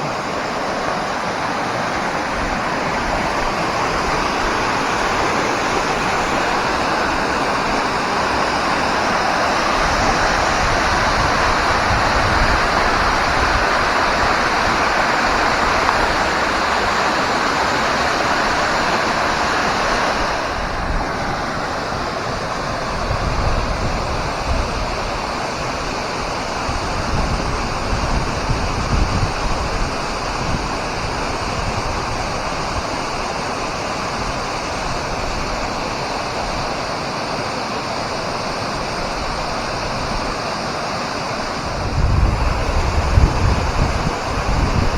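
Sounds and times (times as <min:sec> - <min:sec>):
wind rumbling on microphone: 0:00.0 - 0:36.9, 0:41.2 - 0:44.9
waterfall roaring: 0:00.0 - 0:44.9.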